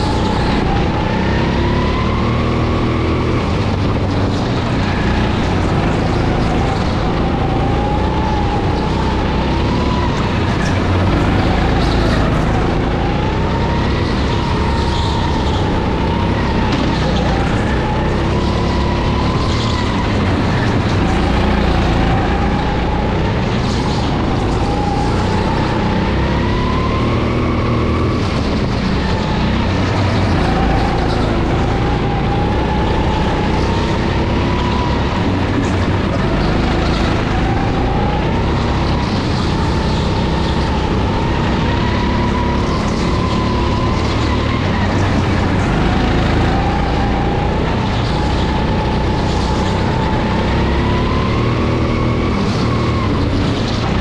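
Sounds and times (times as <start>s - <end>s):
kart engine whining: 0.0s - 54.0s.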